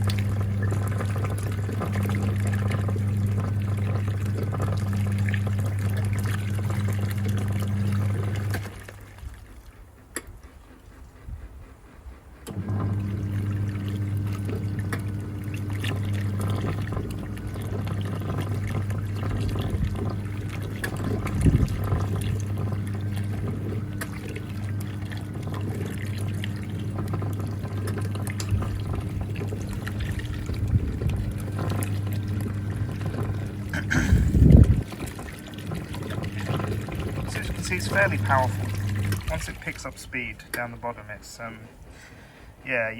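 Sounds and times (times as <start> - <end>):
washing machine motor humming: 0.0 - 10.8, 11.8 - 42.9
water churning in tub: 0.0 - 42.9.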